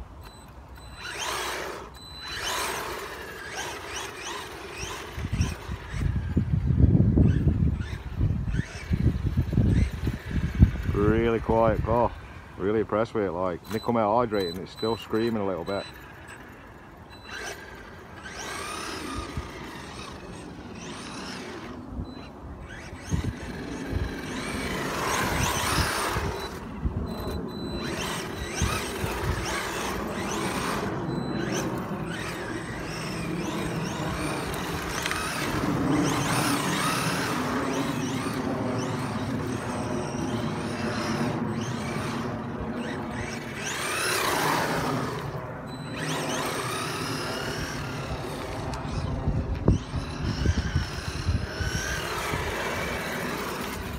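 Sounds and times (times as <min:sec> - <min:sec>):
rc car motor whining: 0:00.0 - 0:53.9.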